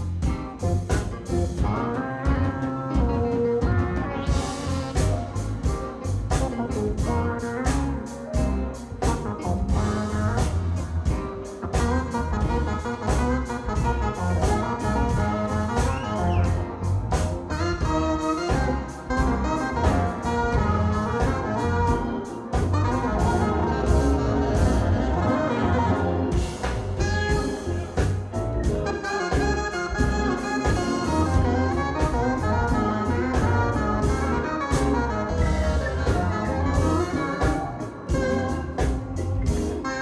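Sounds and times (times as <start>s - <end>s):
drums: 0.0s - 40.0s
electric bass: 0.0s - 40.0s
keyboards: 0.0s - 40.0s
saxophone horn line: 0.0s - 40.0s.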